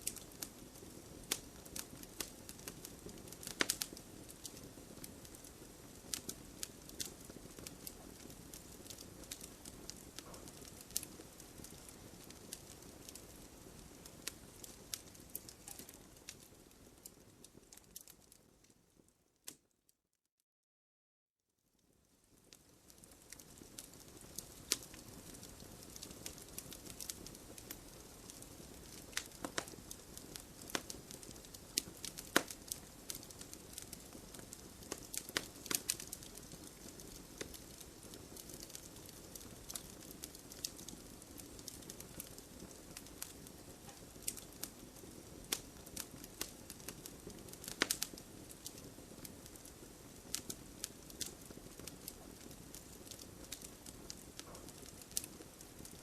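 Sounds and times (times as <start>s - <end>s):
campfire crackling and popping: 0.0s - 19.6s, 22.2s - 56.0s.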